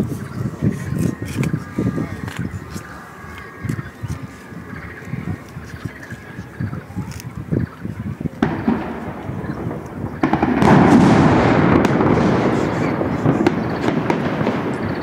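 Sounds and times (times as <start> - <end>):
fireworks bursting: 0.0 - 15.0
fireworks crackling rumble: 0.0 - 15.0.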